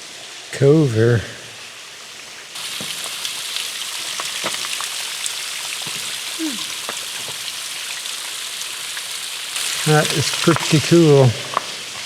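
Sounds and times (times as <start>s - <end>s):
small waterfall hissing: 0.0s - 12.0s
water drips and splashes: 0.0s - 12.0s.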